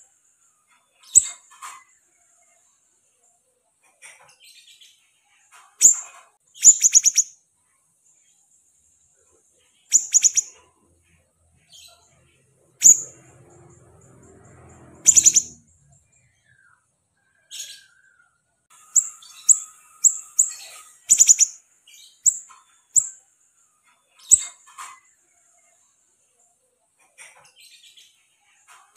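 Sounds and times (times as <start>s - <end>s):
songbird chirping: 0.0s - 28.9s.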